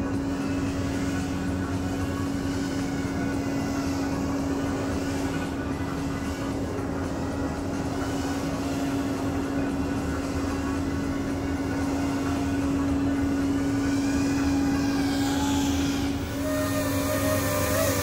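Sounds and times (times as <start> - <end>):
higher motor tones: 0.0 - 18.0
quadcopter motors buzzing: 0.0 - 18.0.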